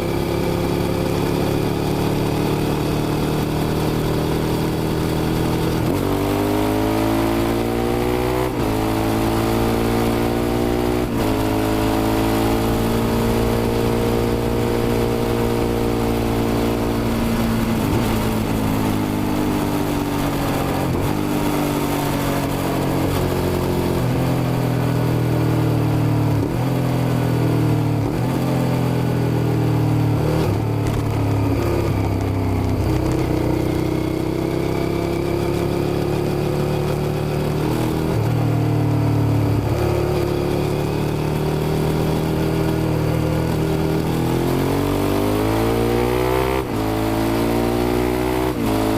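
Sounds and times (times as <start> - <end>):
motorcycle engine pulling hard: 0.0 - 48.9.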